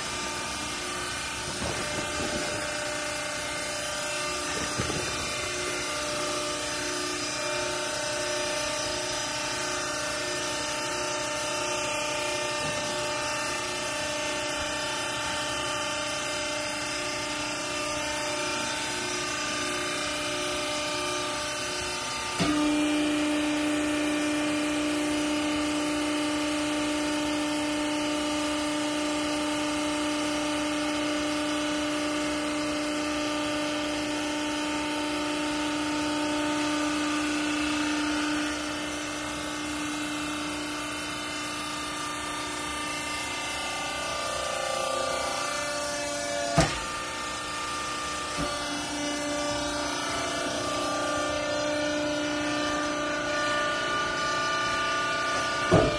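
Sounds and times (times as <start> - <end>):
hydraulic baler motor whining: 0.0 - 55.9.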